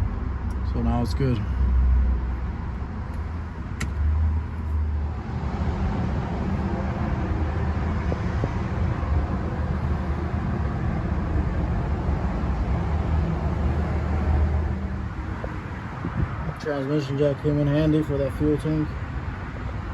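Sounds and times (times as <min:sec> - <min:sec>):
vehicle engine rumbling: 0:00.0 - 0:19.9.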